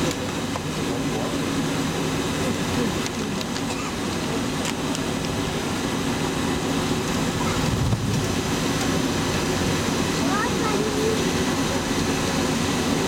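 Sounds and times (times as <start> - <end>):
aircraft engine rumble in cabin: 0.0 - 13.0.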